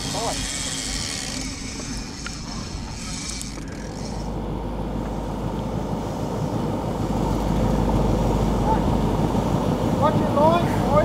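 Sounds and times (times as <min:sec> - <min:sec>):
boat engine running: 0:00.0 - 0:11.0
water noise: 0:00.0 - 0:11.0
wind: 0:00.0 - 0:11.0.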